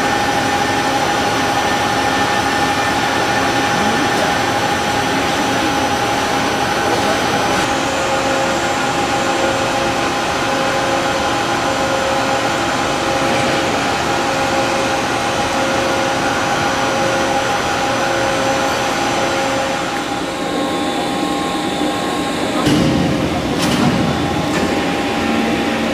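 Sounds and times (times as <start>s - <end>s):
lathe machine whir: 0.0s - 25.9s.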